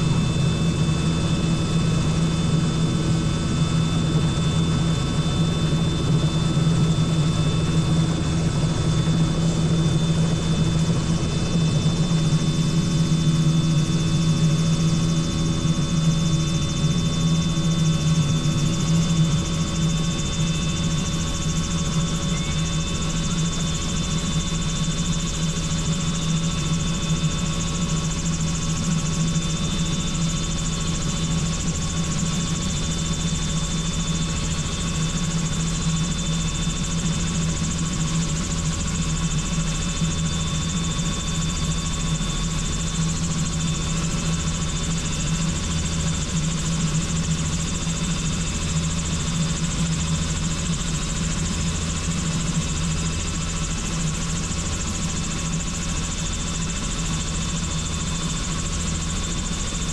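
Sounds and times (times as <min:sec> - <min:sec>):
helicopter turbine and rotor: 0:00.0 - 0:59.9.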